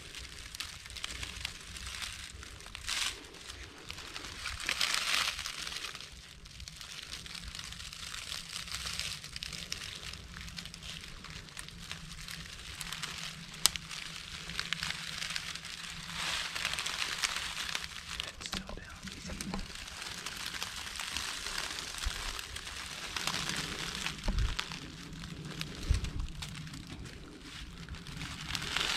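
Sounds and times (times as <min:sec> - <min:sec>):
footsteps crunching through dry leaves: 0:00.0 - 0:28.9.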